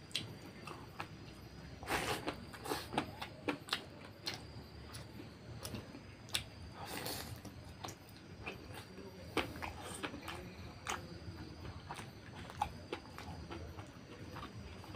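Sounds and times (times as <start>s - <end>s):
wet chewing and lip smacks: 2.2s - 14.9s.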